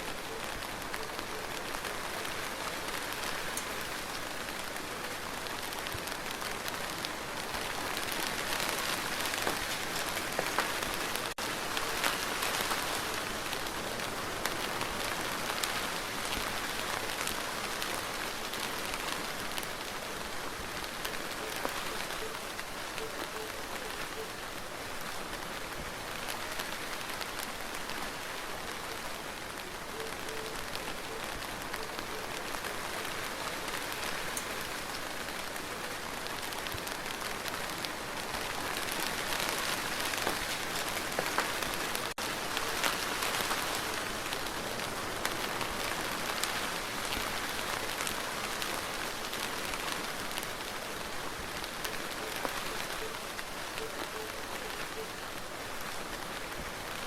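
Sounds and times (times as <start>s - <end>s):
rain falling on hard surface: 0.0s - 57.0s.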